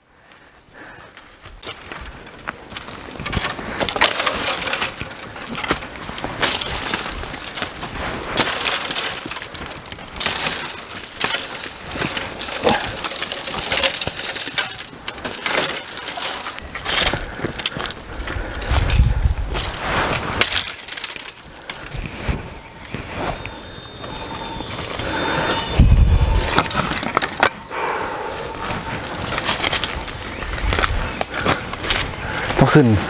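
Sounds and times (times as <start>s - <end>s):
bamboo stems crackling and snapping: 0.8s - 27.7s, 28.4s - 32.8s.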